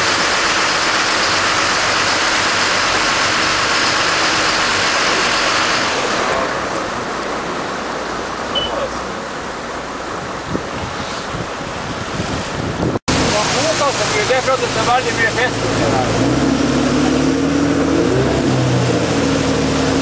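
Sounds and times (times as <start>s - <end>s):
boat engine drone: 0.0s - 12.0s, 13.1s - 20.0s
wind and water rushing: 0.0s - 20.0s.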